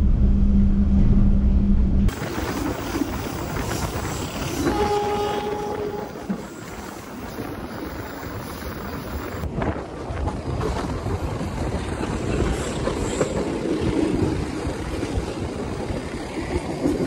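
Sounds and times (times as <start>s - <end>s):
train running noise: 0.0s - 17.0s
wind buffeting microphone: 2.1s - 17.0s.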